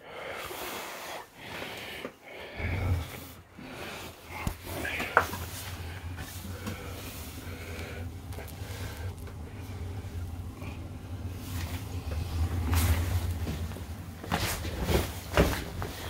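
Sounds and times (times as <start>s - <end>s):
breathy hissy noises: 0.0s - 16.0s
furnace humming: 0.0s - 16.0s.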